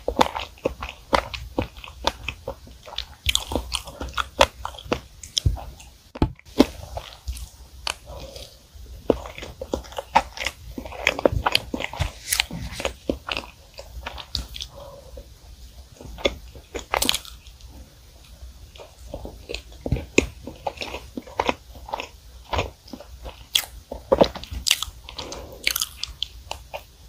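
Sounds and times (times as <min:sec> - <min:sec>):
wet chewing with mouth clicks: 0:00.0 - 0:27.0.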